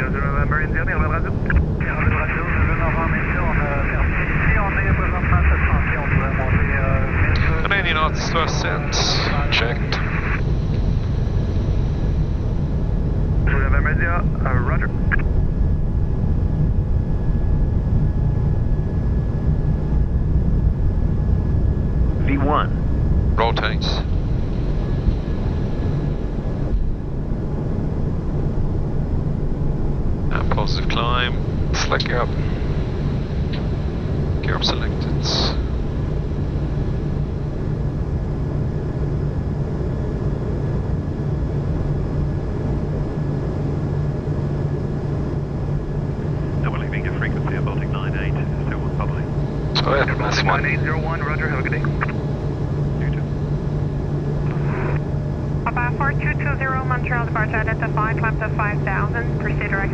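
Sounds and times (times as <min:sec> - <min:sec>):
jet engines deep rumble: 0:00.0 - 0:59.9.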